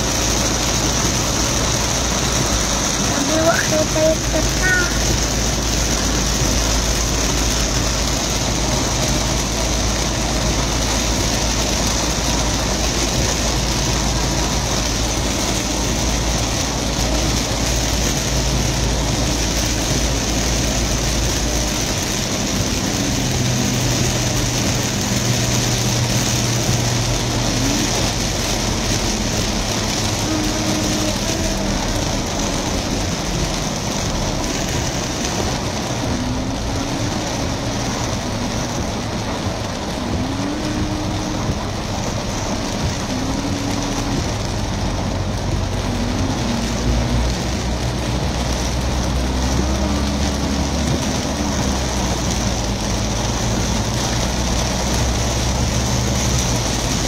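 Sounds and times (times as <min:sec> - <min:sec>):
car engine running: 0:00.0 - 0:57.0
heavy rain drumming on car roof: 0:00.0 - 0:57.0.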